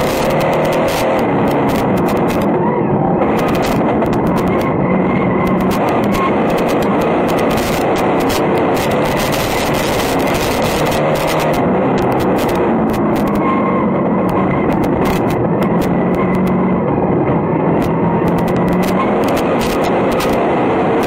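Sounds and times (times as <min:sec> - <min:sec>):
sharp clicks and crackles: 0:00.0 - 0:02.6, 0:03.2 - 0:16.6, 0:17.6 - 0:21.0
mechanical and road noise: 0:00.0 - 0:21.0
race car engine running hard: 0:00.0 - 0:21.0.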